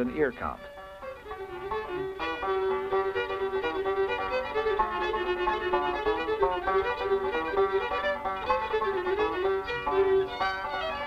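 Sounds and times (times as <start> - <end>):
fiddle playing a quick tune: 0.0 - 11.0.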